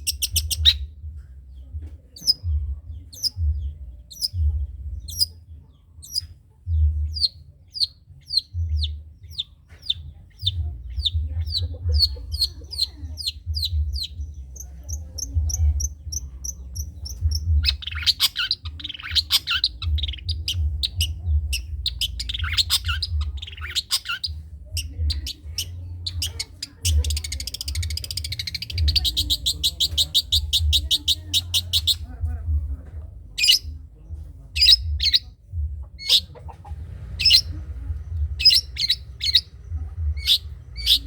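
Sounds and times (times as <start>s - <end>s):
bird singing and chattering: 0.0s - 32.3s, 33.4s - 33.8s, 34.6s - 41.0s
low rumble: 0.0s - 41.0s.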